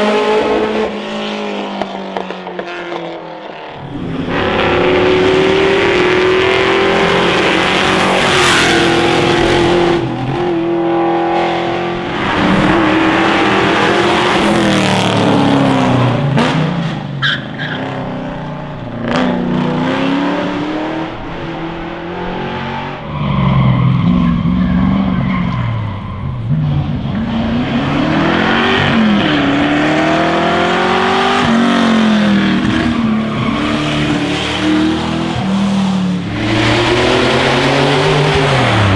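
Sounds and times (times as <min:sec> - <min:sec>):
racing car engines revving: 0:00.0 - 0:38.9.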